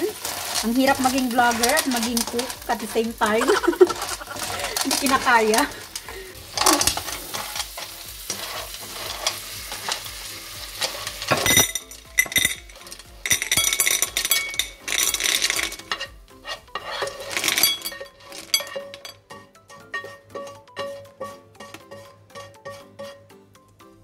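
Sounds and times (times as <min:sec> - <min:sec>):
shells clattering against pan and bowl: 0:00.0 - 0:23.3
butter sizzling in pan: 0:00.0 - 0:23.5
spatula scraping frying pan: 0:00.0 - 0:23.5.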